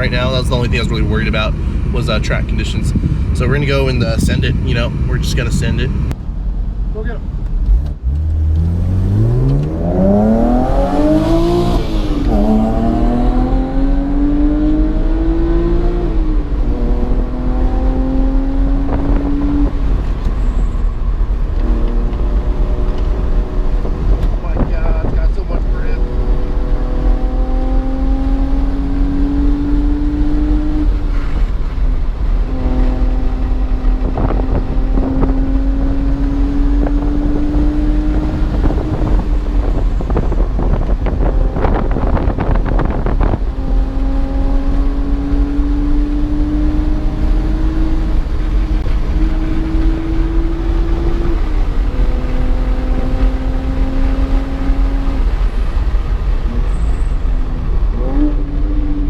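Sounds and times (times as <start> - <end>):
car engine pulling hard: 0.0 - 59.0
wind rumble on microphone: 0.0 - 59.0.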